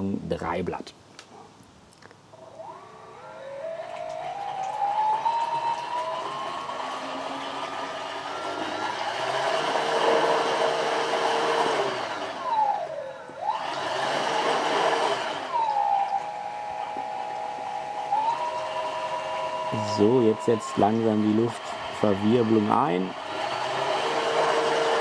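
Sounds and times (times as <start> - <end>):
propeller churning water: 2.3 - 25.0
small electric motor whining: 2.3 - 25.0.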